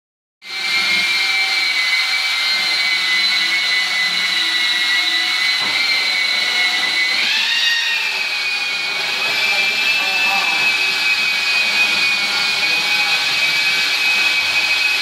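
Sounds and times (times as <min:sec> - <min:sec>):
drywall sander motor whine: 0:00.4 - 0:15.0.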